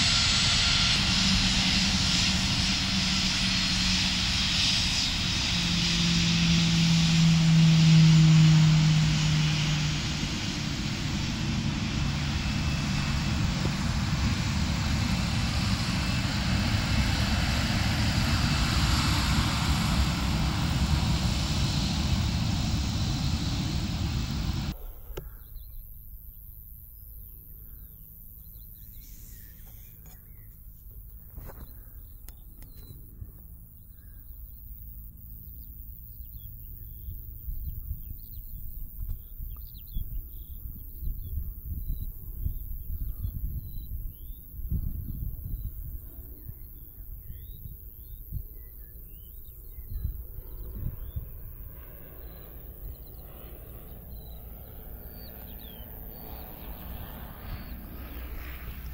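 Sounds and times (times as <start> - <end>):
steady low rumble: 0.0 - 58.9
small birds chirping: 9.9 - 58.9.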